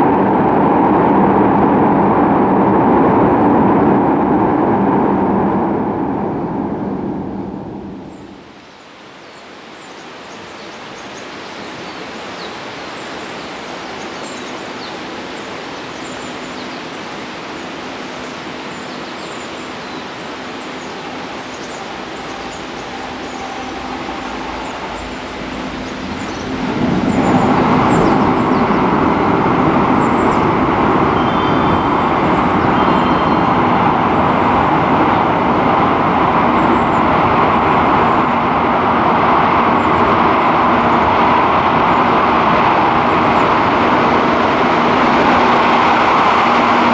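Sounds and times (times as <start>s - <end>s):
electric train rumbling in tunnel: 0.0s - 8.6s, 9.4s - 46.9s.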